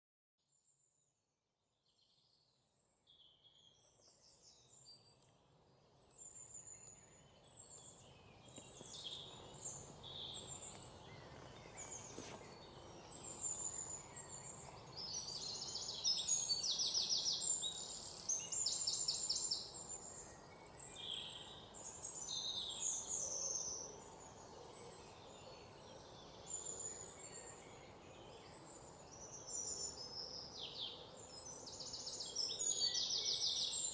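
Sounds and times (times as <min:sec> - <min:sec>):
songbirds singing and chirping: 0:01.9 - 0:33.9.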